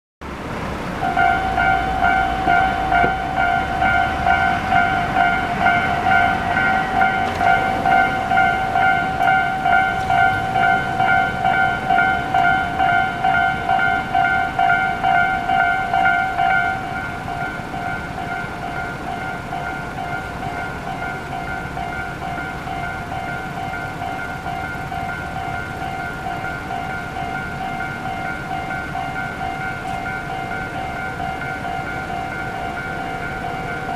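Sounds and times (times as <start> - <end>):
level crossing bell two-tone clang: 1.0 - 33.9.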